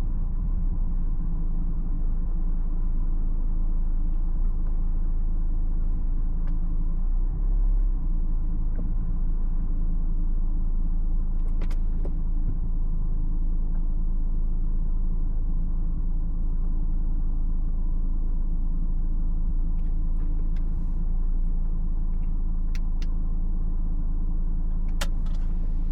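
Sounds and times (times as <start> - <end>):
car engine running: 0.0 - 25.9
road noise rumble: 0.0 - 25.9.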